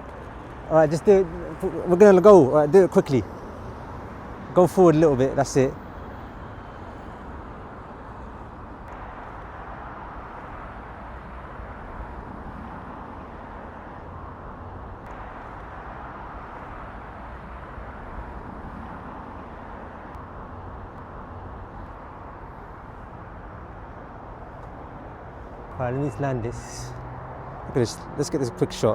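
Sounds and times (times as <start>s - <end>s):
distant road traffic hum: 0.0s - 28.9s.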